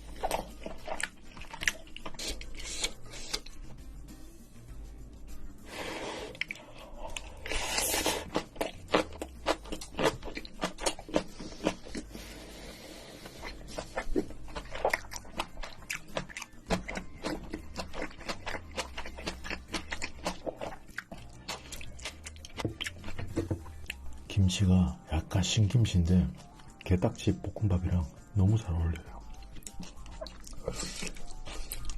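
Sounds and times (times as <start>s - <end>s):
person chewing and crunching food: 0.0s - 3.9s, 5.5s - 24.3s, 26.3s - 27.5s, 28.9s - 31.9s.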